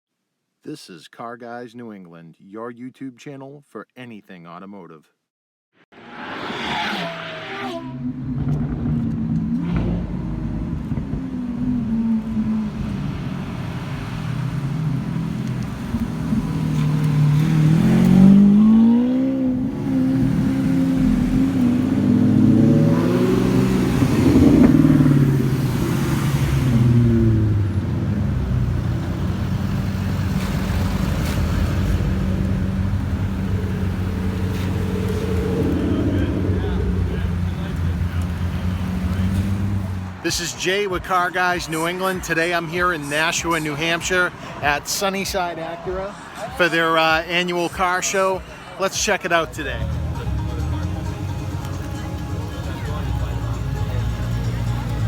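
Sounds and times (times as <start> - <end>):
car engines revving: 6.0 - 55.0.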